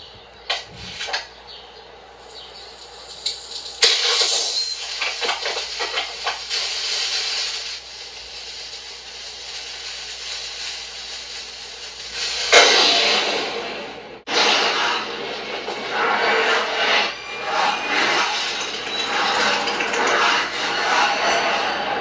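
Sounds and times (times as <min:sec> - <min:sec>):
rocket thrust hissing rush: 0:03.8 - 0:22.0.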